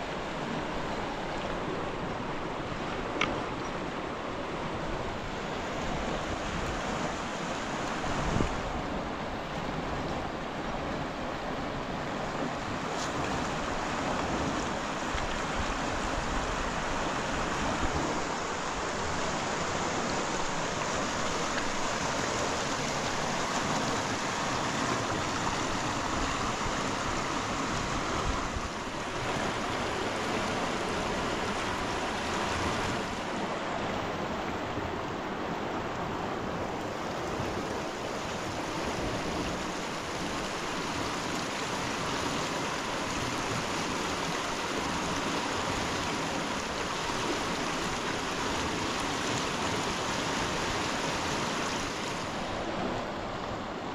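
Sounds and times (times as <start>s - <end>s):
rushing water: 0.0s - 53.9s.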